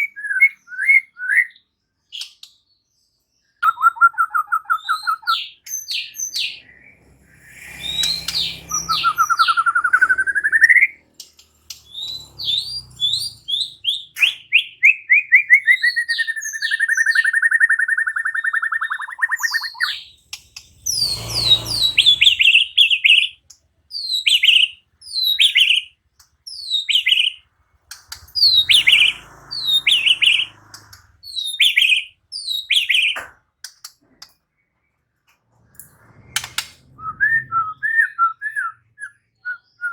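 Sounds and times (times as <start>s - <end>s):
bird singing whistles and trills: 0.0s - 2.4s, 3.6s - 11.0s, 11.7s - 27.4s, 28.0s - 33.3s, 36.9s - 39.9s.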